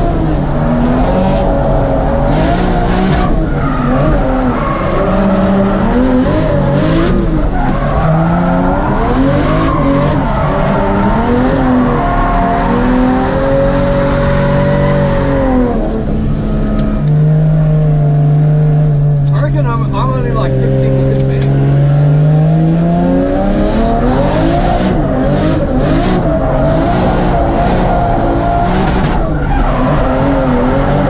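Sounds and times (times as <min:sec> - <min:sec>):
car engine revving: 0:00.0 - 0:31.0
tyres skidding: 0:00.0 - 0:31.0.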